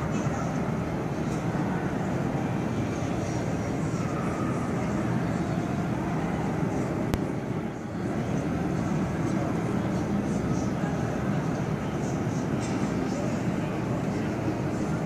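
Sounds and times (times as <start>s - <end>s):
low rumble of crowd din: 0.0s - 15.0s.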